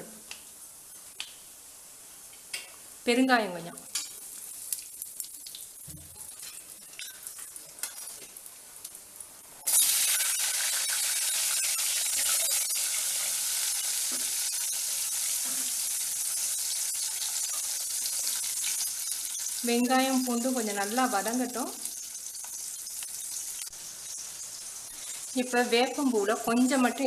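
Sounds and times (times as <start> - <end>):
loud sizzle of frying: 0.1 - 27.0
seeds crackling in hot oil: 0.3 - 27.0.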